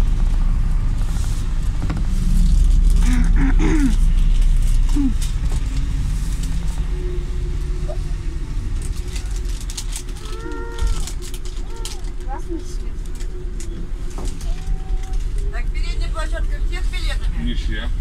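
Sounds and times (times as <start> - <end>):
bus engine rumbling: 0.0 - 18.0.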